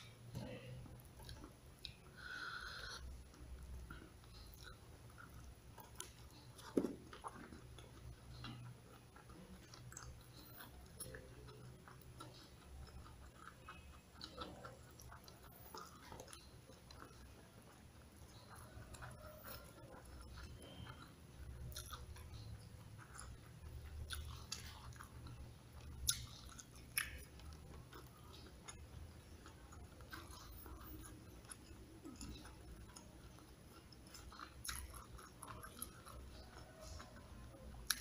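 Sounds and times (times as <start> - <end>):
chewing crispy fried chicken: 0.0 - 38.0
wet mouth sounds: 0.0 - 38.0.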